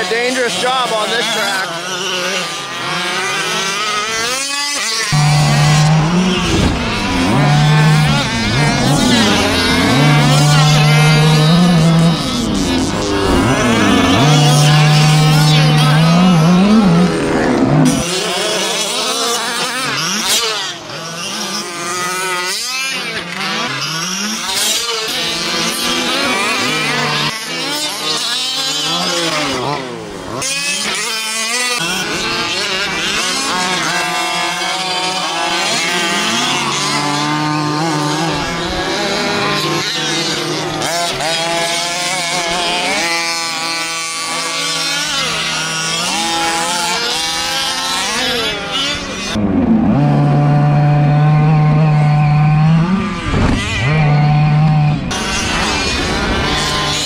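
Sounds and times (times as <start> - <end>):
small two-stroke engines revving: 0.0 - 57.0.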